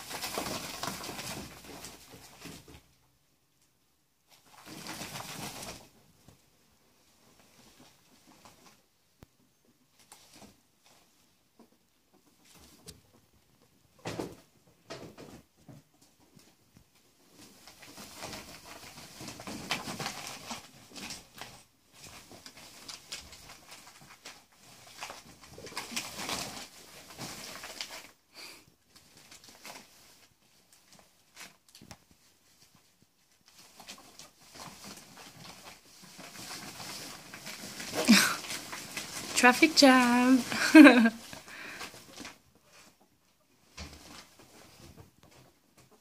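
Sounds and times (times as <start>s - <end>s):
plastic tunnel crinkling: 0.0s - 9.0s, 9.9s - 46.0s.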